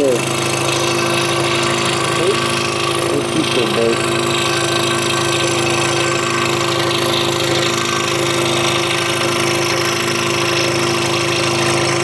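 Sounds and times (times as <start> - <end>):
scroll saw cutting wood: 0.0 - 12.0.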